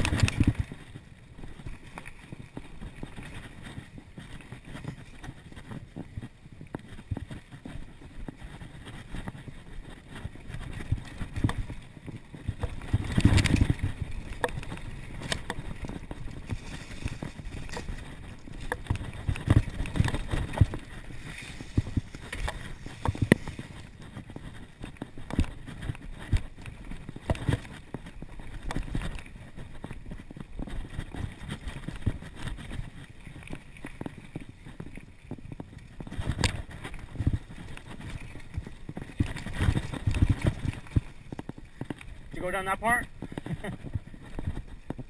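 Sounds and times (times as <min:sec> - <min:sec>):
bike tyres rumbling over dirt: 0:00.0 - 0:45.0.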